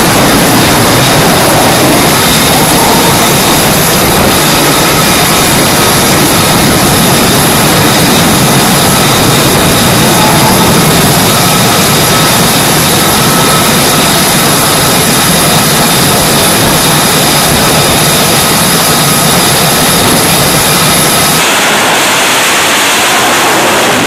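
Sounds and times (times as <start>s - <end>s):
jet engines roaring with whine: 0.0s - 24.0s.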